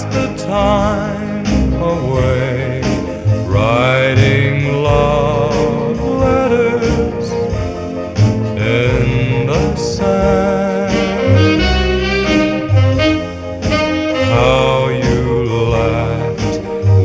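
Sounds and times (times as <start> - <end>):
music with wavering lead melody: 0.0 - 17.0.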